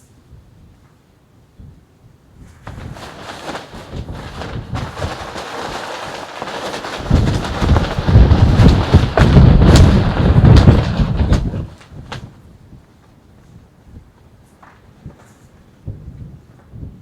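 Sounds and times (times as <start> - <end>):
wind buffeting microphone: 2.4 - 14.2, 14.9 - 17.0.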